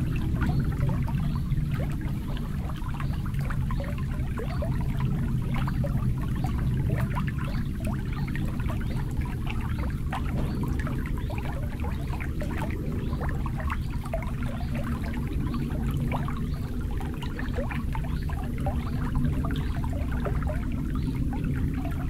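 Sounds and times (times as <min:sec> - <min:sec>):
water lapping against shore: 0:00.0 - 0:22.0.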